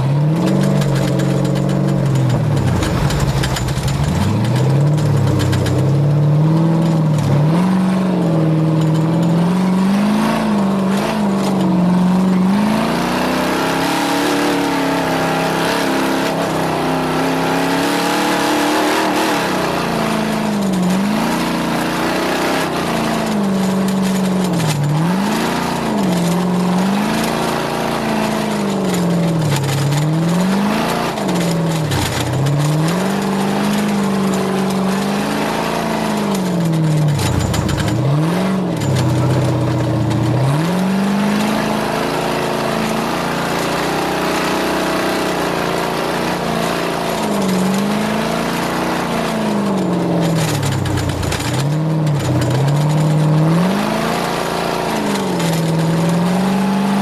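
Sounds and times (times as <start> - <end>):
race vehicle engine revving: 0.0 - 57.0.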